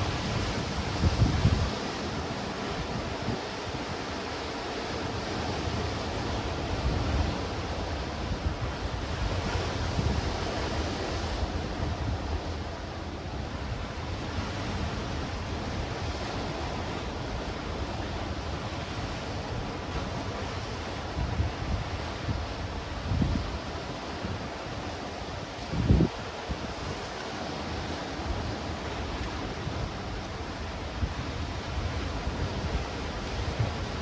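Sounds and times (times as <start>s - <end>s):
wind buffeting microphone: 0.0s - 4.4s, 5.1s - 13.9s, 19.3s - 27.0s, 27.8s - 34.0s
waves washing against rocks: 0.0s - 34.0s.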